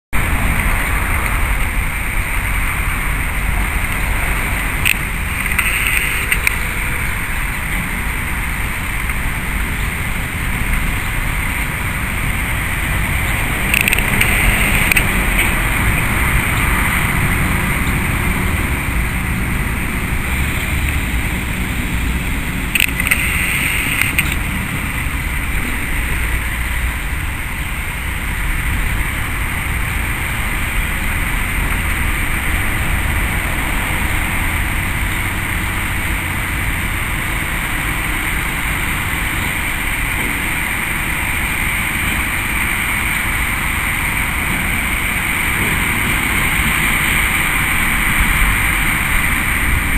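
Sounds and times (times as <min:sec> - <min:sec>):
diesel locomotive engine running: 0:00.2 - 0:49.9.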